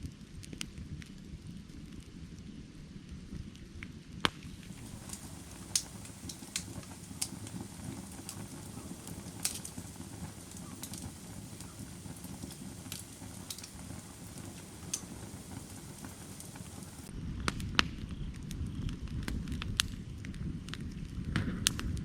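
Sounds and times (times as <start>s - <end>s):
firewood crackling and popping: 0.0s - 22.0s
low rumble of flames: 0.0s - 22.0s.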